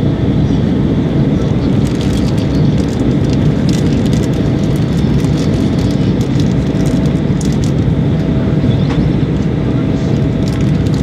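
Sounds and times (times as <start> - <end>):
jet airliner cabin roar: 0.0 - 11.0.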